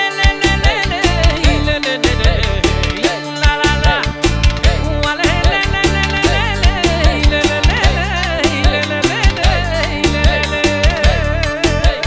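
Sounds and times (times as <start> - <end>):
electronic keyboard melody over beat: 0.0 - 12.0.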